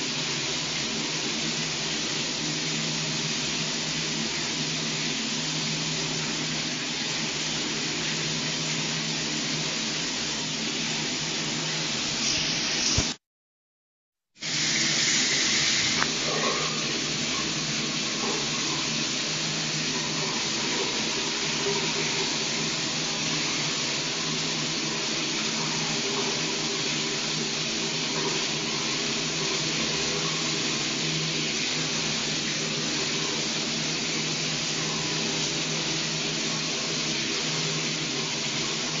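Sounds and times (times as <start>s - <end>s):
shower water spraying: 6.2s - 13.2s, 14.4s - 39.0s.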